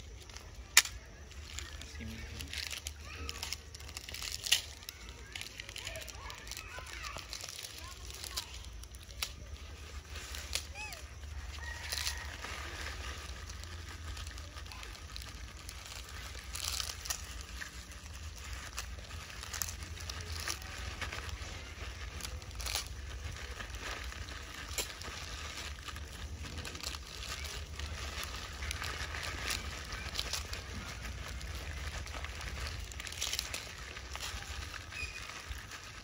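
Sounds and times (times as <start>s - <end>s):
plastic wrapper crinkling: 0.0s - 36.0s.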